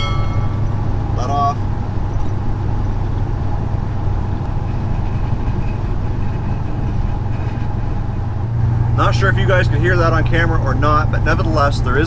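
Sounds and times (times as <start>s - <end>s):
engine and road drone: 0.0s - 12.0s.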